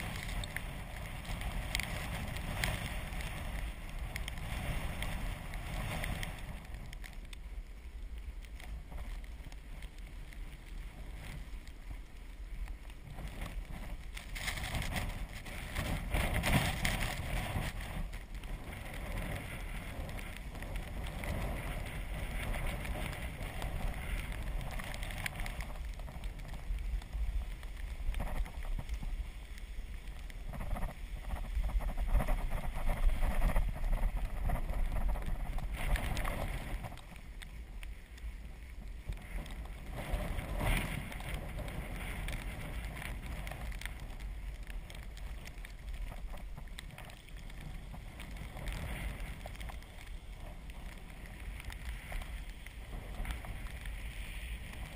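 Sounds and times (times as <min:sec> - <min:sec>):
tyre noise on wet road: 0:00.0 - 0:54.9
wind rumbling on microphone: 0:00.0 - 0:54.9.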